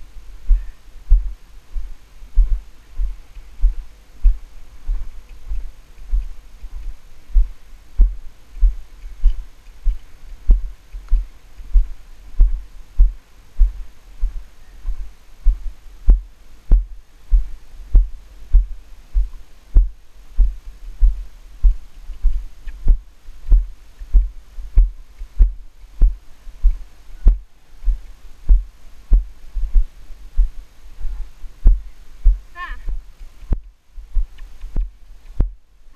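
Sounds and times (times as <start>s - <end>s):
rhythmic low thumps: 0.0s - 35.7s.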